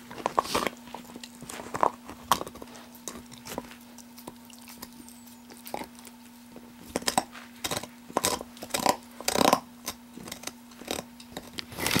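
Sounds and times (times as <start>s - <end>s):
dog gnawing on a bone: 0.0s - 12.0s.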